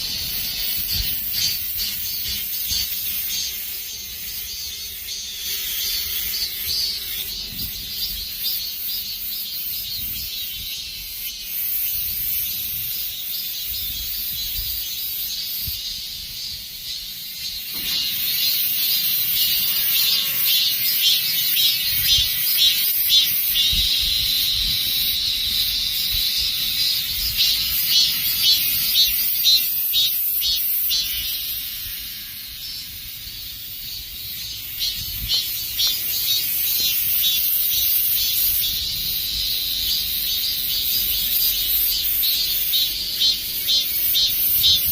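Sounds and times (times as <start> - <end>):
cicadas buzzing: 0.0 - 44.9.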